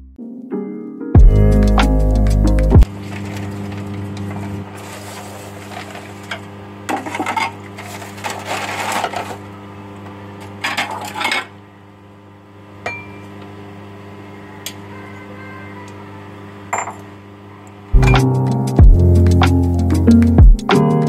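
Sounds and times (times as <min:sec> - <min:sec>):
low electrical hum: 0:01.2 - 0:19.3.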